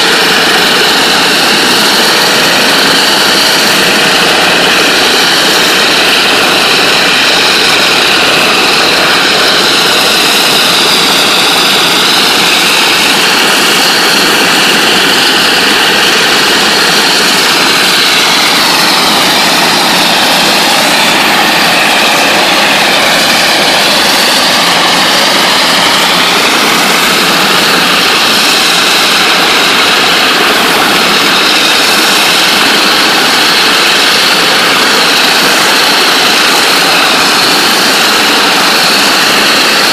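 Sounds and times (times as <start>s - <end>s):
whining tones: 0.0s - 36.0s
water jet blasting hiss: 0.0s - 39.9s.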